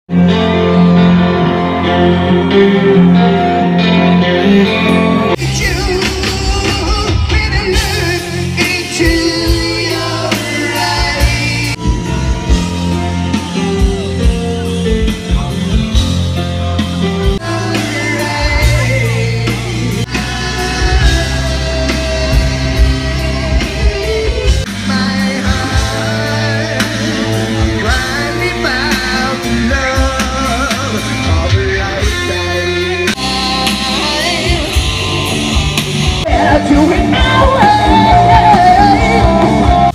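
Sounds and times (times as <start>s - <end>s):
person singing: 0.1s - 15.9s, 17.1s - 39.9s
rock band playing live: 0.1s - 39.9s.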